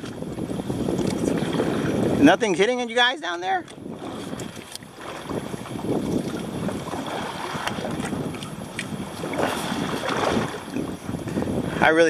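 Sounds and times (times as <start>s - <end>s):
wind and water rushing: 0.0s - 12.0s.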